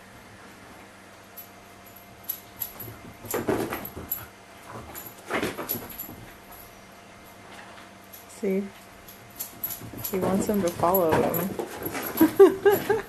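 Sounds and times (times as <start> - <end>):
dog paws scuffling and clicking: 2.2 - 13.0.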